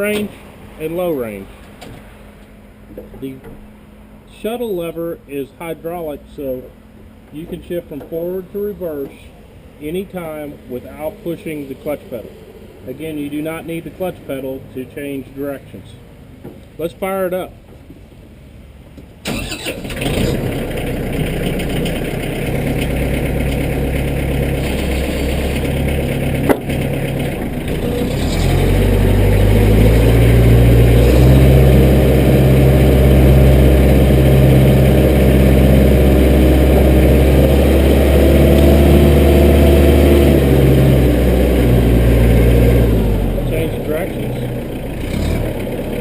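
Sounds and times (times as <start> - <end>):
tractor diesel engine: 0.0 - 16.2, 19.2 - 46.0.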